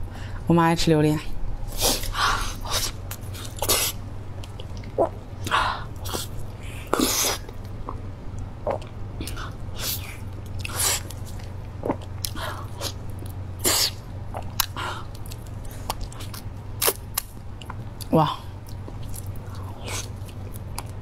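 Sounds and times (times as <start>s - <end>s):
low hum: 0.0s - 21.0s
person eating with wet mouth sounds: 1.7s - 21.0s.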